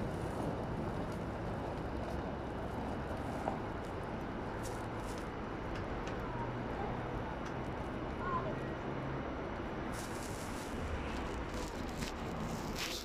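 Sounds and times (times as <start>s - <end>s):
railway station rumble: 0.0s - 13.0s.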